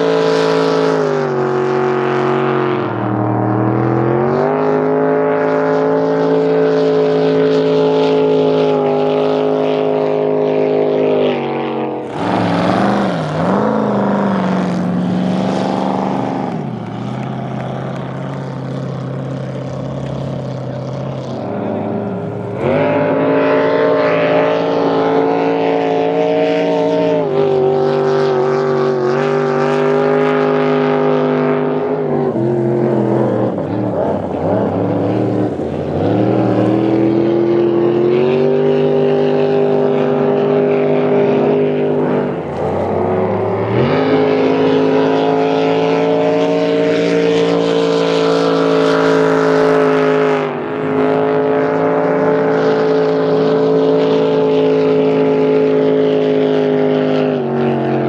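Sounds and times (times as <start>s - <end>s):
boat engines running hard: 0.0s - 58.0s.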